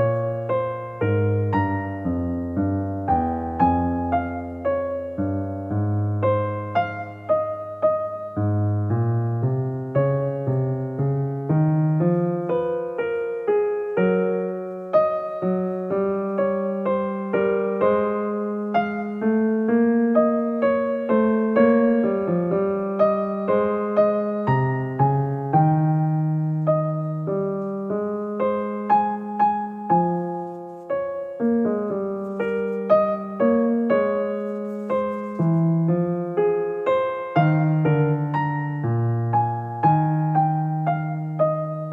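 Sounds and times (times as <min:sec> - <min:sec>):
solo piano piece: 0:00.0 - 0:41.9.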